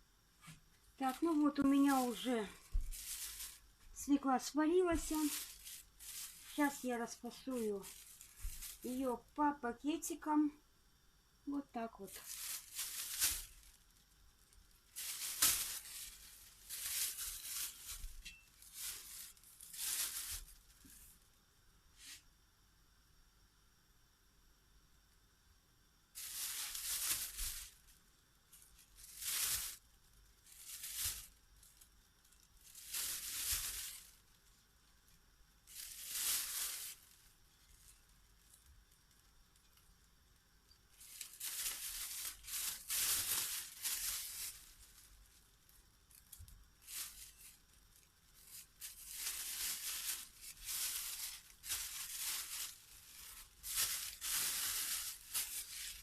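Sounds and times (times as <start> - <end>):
plastic bags rustling: 0.9 - 10.2, 12.0 - 21.2, 26.2 - 34.6, 35.6 - 39.2, 40.9 - 56.0.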